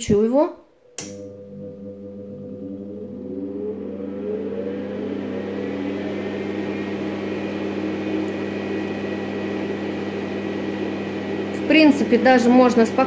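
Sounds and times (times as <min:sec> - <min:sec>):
fan motor humming: 0:00.8 - 0:13.0.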